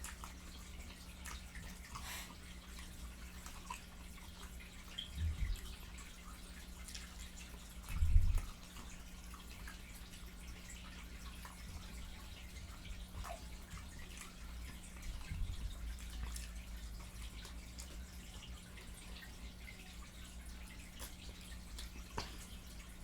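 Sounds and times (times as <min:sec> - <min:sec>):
chewing and lip smacking: 0:00.0 - 0:10.1, 0:10.8 - 0:19.4, 0:20.1 - 0:23.0
steady low hum: 0:01.6 - 0:23.0.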